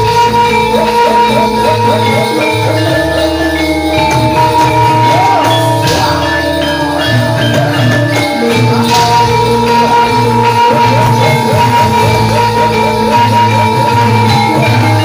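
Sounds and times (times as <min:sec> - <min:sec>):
gamelan music: 0:00.0 - 0:15.0.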